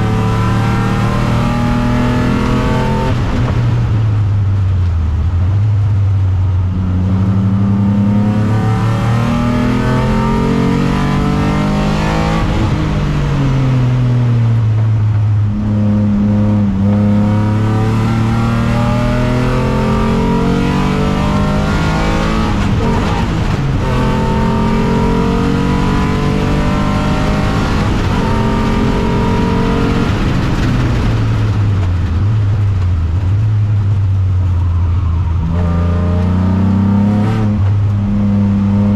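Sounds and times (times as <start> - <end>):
race car engine revving: 0.0 - 4.0, 6.7 - 14.8, 15.4 - 38.9.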